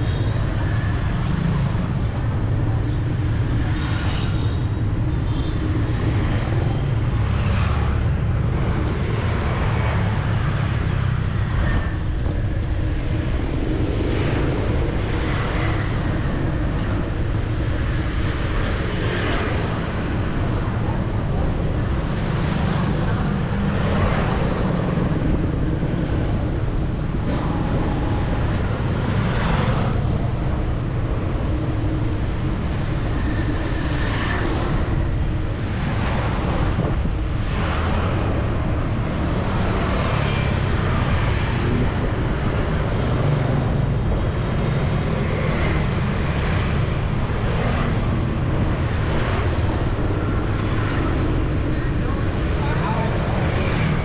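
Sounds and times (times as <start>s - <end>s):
city street traffic: 0.0s - 54.0s
vehicles passing: 0.0s - 54.0s.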